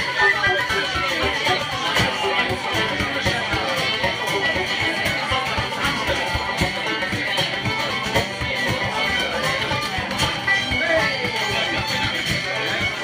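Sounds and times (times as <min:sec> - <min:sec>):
folk tune on whistle and strings: 0:00.0 - 0:13.0.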